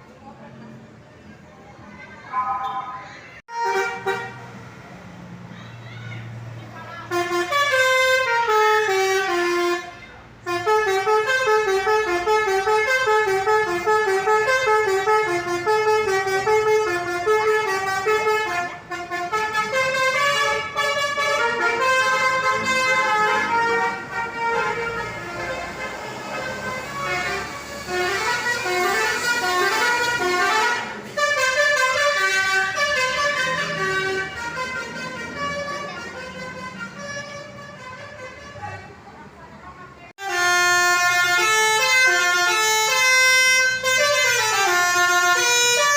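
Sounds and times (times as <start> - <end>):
musical bus horn melodies: 2.4 - 4.6, 7.0 - 38.9, 40.2 - 45.9.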